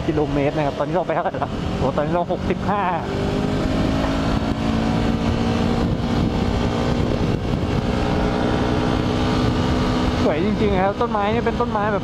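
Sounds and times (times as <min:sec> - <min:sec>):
motorcycle engine humming: 0:00.0 - 0:12.0
wind and road noise: 0:00.0 - 0:12.0.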